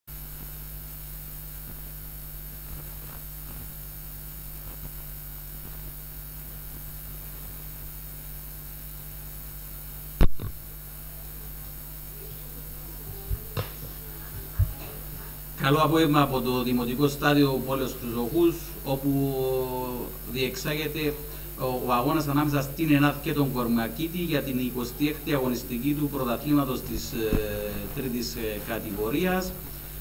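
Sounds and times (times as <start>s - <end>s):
electrical mains hum: 0.1s - 30.0s.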